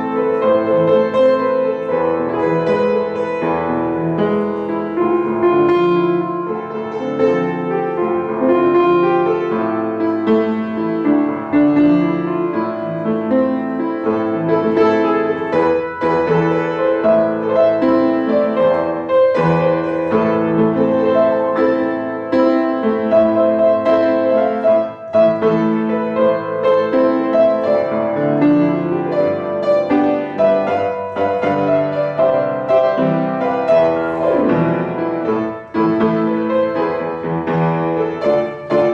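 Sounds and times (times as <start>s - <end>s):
upright piano playing: 0.0s - 38.9s.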